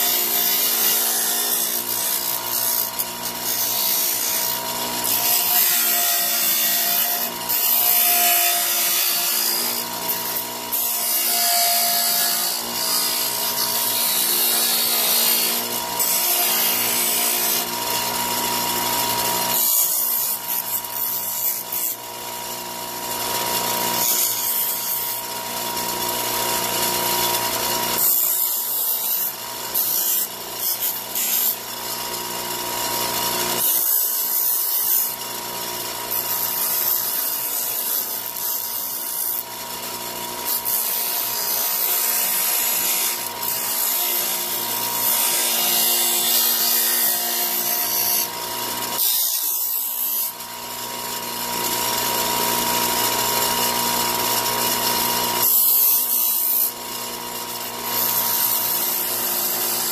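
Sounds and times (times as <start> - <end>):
bench grinder motor whine: 0.0 - 59.9.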